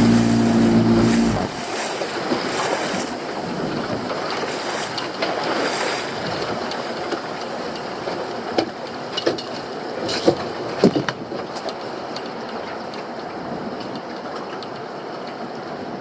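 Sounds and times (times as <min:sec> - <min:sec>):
sea: 0:00.0 - 0:16.0
wind: 0:00.0 - 0:16.0.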